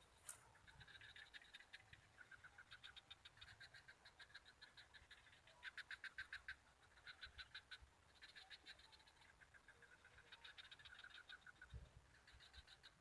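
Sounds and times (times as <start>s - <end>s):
faint frog chorus clicking: 0.0s - 13.0s.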